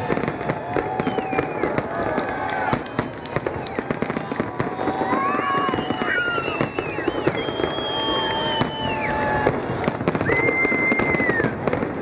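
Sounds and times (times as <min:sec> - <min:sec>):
fireworks crackling and popping: 0:00.0 - 0:12.0
high firework whistles: 0:00.0 - 0:12.0.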